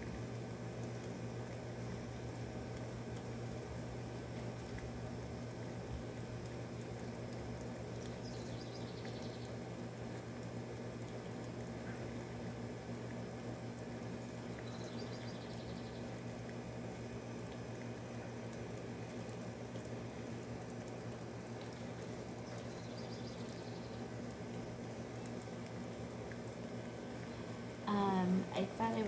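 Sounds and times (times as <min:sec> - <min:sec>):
air conditioner humming: 0:00.0 - 0:29.0
rain falling: 0:00.0 - 0:29.0.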